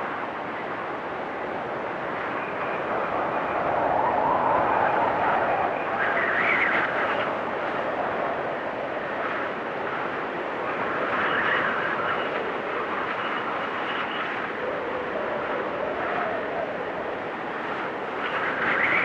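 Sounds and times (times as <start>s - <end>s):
wind blowing hard: 0.0s - 19.0s.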